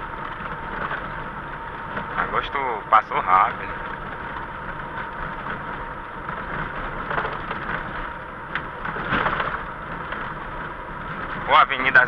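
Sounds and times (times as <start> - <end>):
car engine hum: 0.0 - 12.0
tyre noise on wet road: 0.0 - 12.0.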